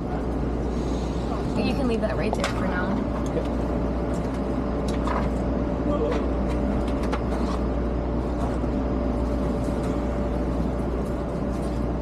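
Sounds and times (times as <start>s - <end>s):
train car rumble and hum: 0.0s - 12.0s.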